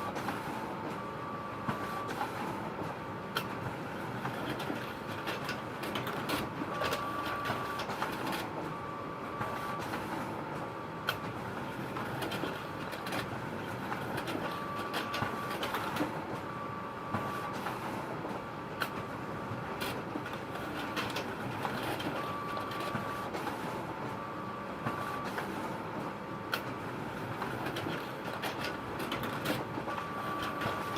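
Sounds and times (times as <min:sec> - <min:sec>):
photocopier whirring: 0:00.0 - 0:30.9.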